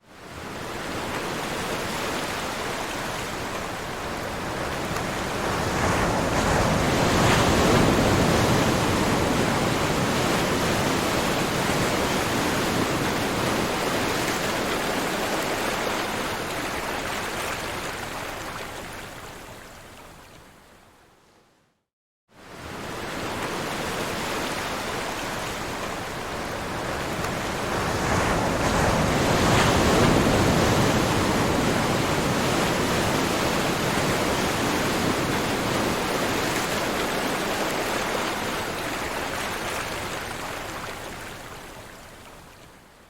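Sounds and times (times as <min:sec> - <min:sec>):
ocean waves breaking: 0:00.3 - 0:18.9, 0:22.4 - 0:42.0.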